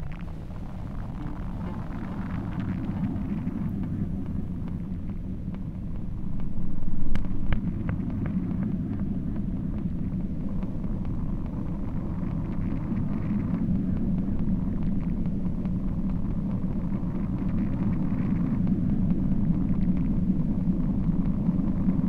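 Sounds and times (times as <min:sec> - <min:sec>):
faint clicks: 0:00.0 - 0:22.0
low rumble: 0:00.0 - 0:22.0.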